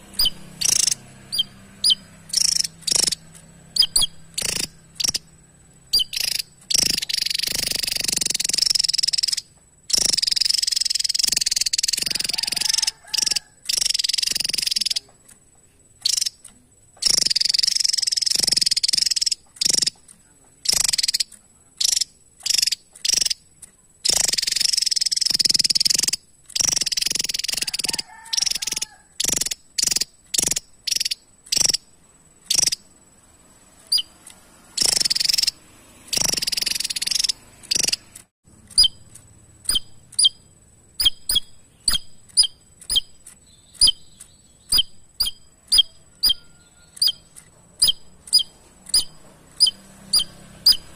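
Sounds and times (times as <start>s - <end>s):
bird twittering: 0.0s - 15.1s, 16.0s - 32.9s, 33.8s - 34.2s, 34.8s - 50.9s
bird chips: 0.0s - 33.0s, 33.8s - 50.9s.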